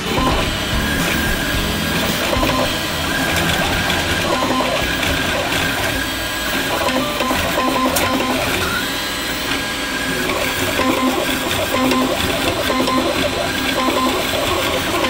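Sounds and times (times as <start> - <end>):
constant mechanical whir: 0.0 - 15.0
stepper motors whining: 0.0 - 15.0.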